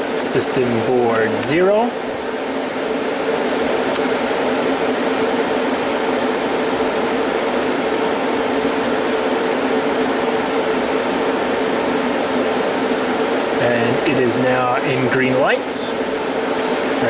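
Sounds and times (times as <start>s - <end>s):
cooling fans rushing air: 0.0s - 17.0s.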